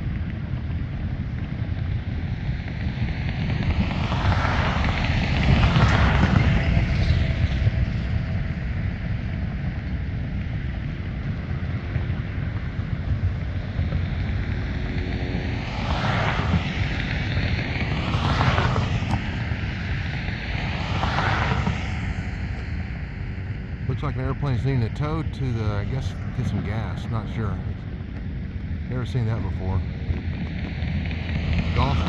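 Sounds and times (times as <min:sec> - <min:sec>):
propeller airplane engine rumbling: 0:00.0 - 0:32.0.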